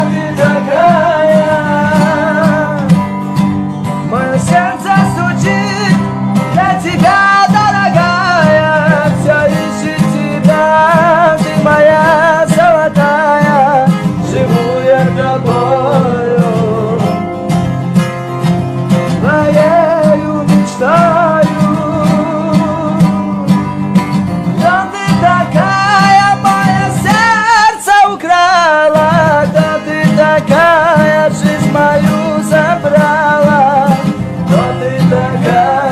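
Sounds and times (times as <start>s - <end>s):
person singing: 0.0s - 3.2s, 4.0s - 17.4s, 19.1s - 23.9s, 24.5s - 35.9s
acoustic guitar: 0.0s - 35.9s.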